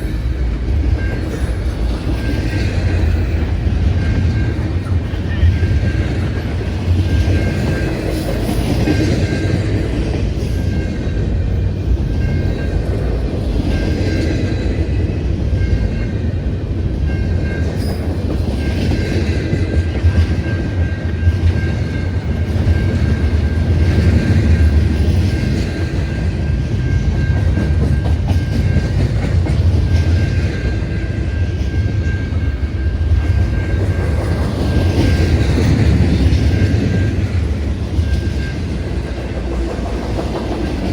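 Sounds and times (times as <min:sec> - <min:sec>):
freight train cars rolling past: 0:00.0 - 0:40.9.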